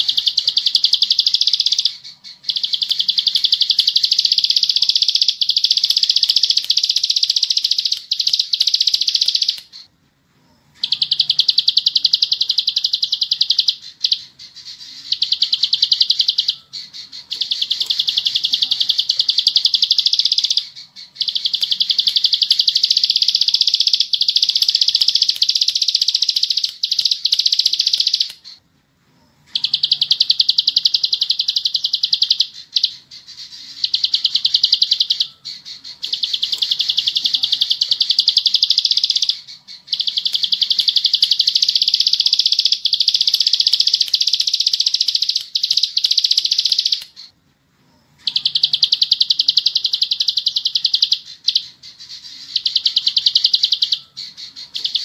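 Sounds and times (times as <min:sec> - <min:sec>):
bird singing rapid high trill: 0:00.0 - 0:09.9, 0:10.8 - 0:28.6, 0:29.4 - 0:47.3, 0:48.0 - 0:55.0.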